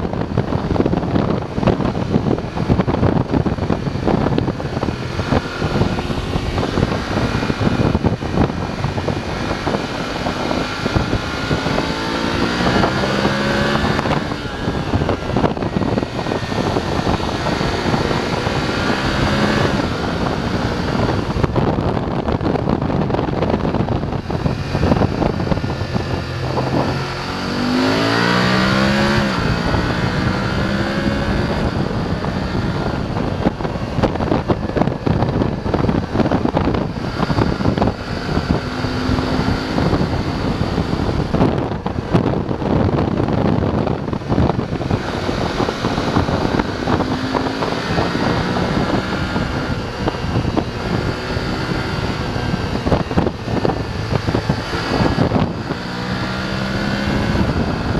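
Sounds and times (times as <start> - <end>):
motorcycle engine revving: 0.0 - 57.9
wind buffeting on microphone: 0.0 - 57.9.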